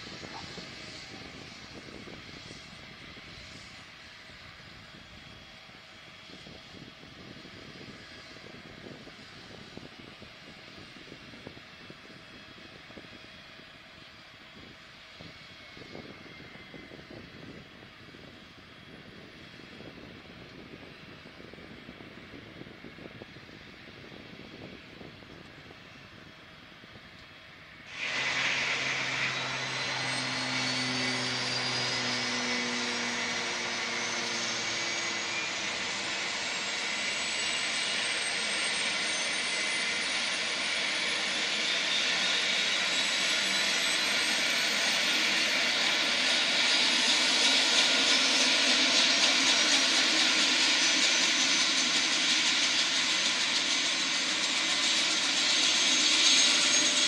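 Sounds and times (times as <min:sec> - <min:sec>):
helicopter turbine spooling up: 0:00.0 - 0:57.0.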